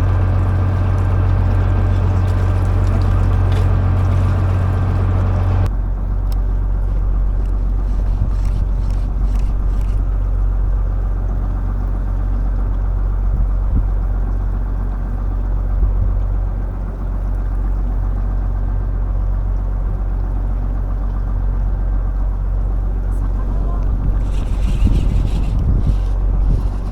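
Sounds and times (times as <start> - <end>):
boat engine droning: 0.0 - 26.9
hiss of wind and water: 0.0 - 26.9.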